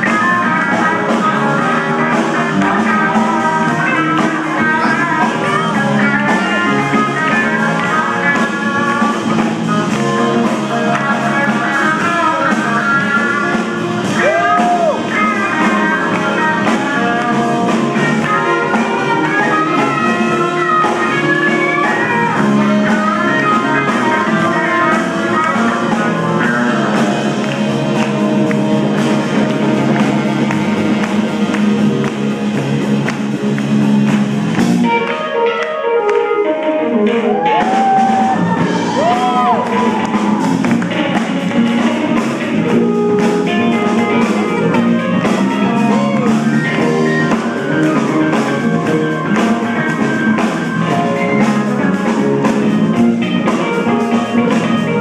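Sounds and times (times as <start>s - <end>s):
drum kit: 0.0s - 55.0s
electric guitar solo: 0.0s - 55.0s
small band playing live: 0.0s - 55.0s.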